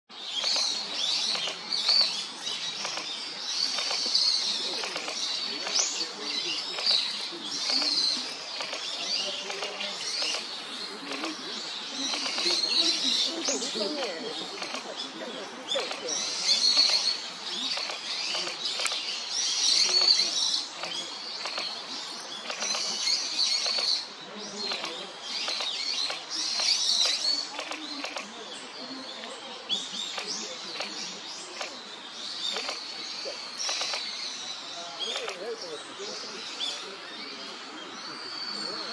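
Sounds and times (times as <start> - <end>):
small birds chirping: 0.1 - 38.9.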